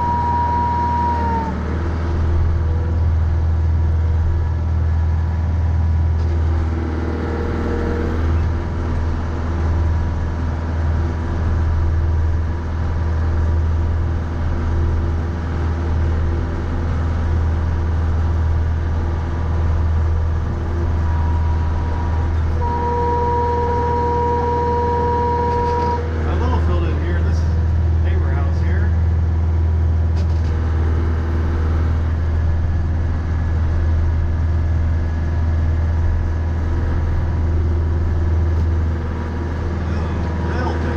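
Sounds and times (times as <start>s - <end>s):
tractor engine rumbling: 0.0s - 40.9s
steady high whine: 7.9s - 40.9s.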